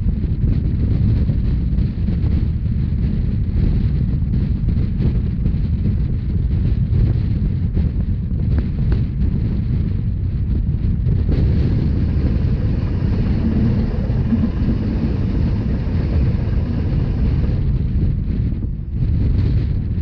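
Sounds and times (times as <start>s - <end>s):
train wheels rumbling on rail: 0.0s - 20.0s
wind buffeting microphone: 0.0s - 20.0s.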